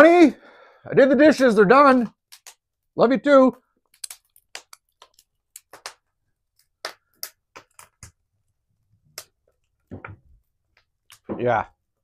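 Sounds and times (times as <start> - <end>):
wood fire crackling: 1.0 - 11.7.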